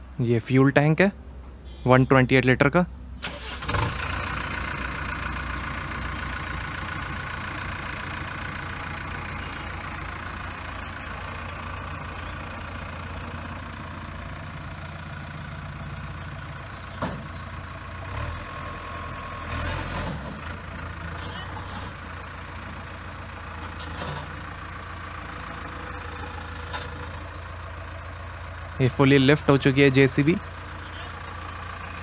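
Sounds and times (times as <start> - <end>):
diesel engine running: 3.1 - 32.0.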